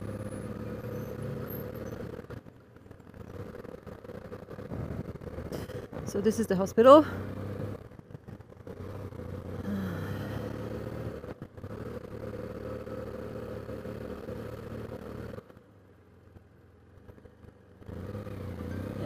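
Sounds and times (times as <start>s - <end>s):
motorcycle engine humming: 0.0s - 19.0s.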